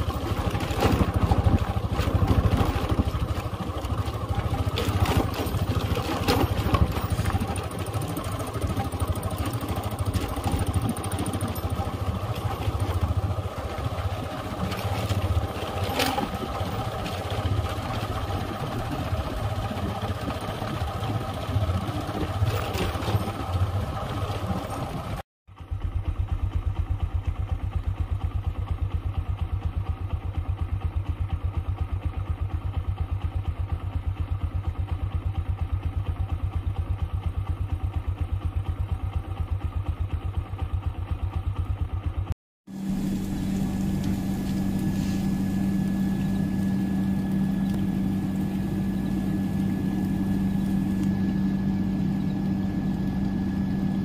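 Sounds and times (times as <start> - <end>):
engine idling: 0.0 - 54.0
vehicle driving on dirt track: 0.0 - 54.0.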